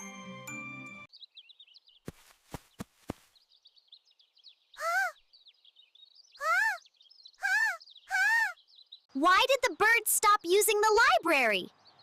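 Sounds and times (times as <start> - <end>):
small birds twittering: 1.1 - 12.0.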